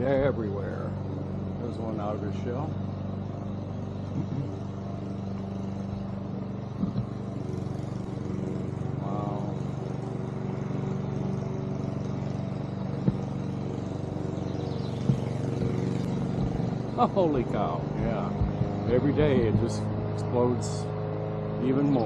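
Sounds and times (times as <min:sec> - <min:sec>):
engine hum: 0:00.0 - 0:22.0.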